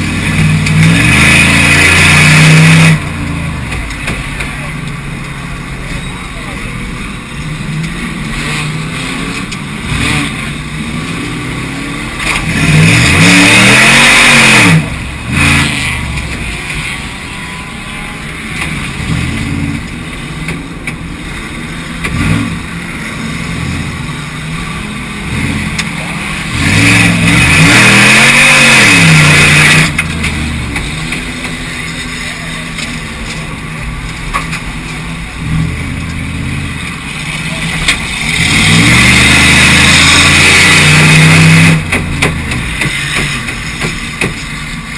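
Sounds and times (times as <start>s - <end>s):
racing car engines: 0.0s - 44.9s
racing cars passing by: 0.0s - 44.9s.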